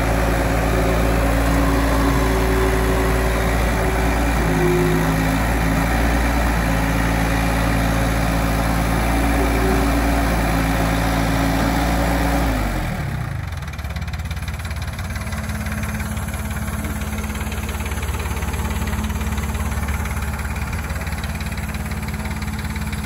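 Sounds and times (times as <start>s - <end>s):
diesel engine revving and idling: 0.0s - 23.0s.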